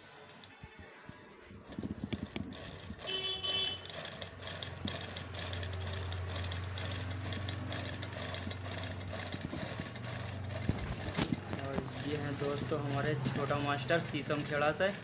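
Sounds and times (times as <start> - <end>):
needle and shuttle clatter: 0.7 - 15.0
sewing machine humming: 1.1 - 15.0.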